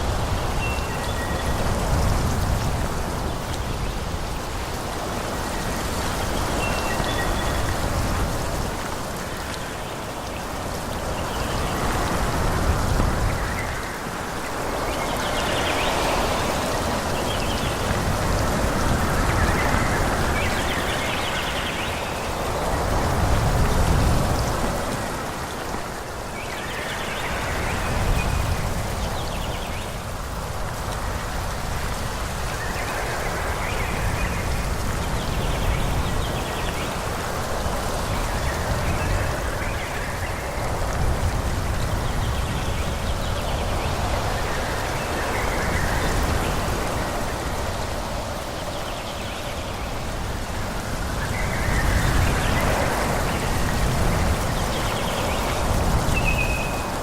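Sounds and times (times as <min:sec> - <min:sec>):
wind rushing through trees: 0:00.0 - 0:57.0.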